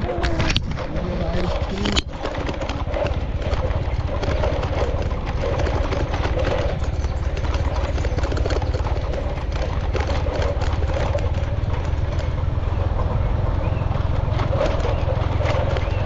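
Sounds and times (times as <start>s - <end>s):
car engine running: 0.0s - 16.0s
road rumble: 0.0s - 16.0s.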